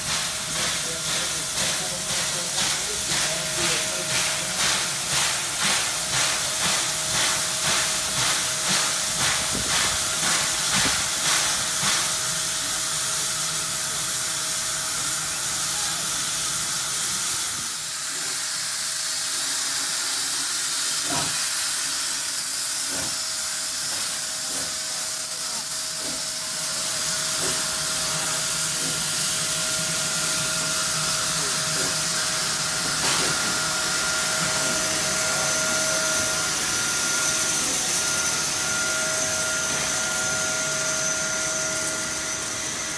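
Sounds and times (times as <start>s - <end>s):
steam hissing: 0.0s - 42.9s
steam locomotive exhaust chuffs: 0.0s - 42.9s.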